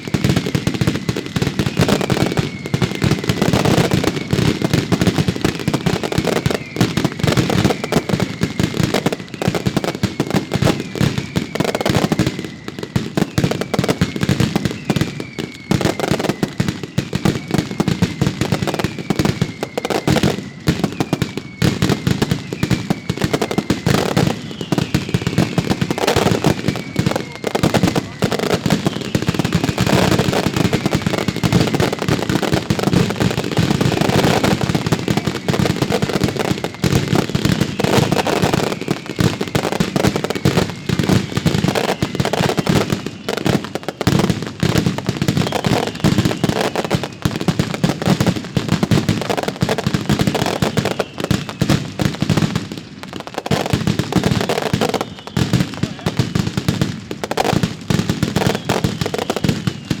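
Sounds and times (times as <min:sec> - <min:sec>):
falling firework whistle: 0:00.0 - 1:00.0
fireworks bursting and crackling: 0:00.0 - 1:00.0.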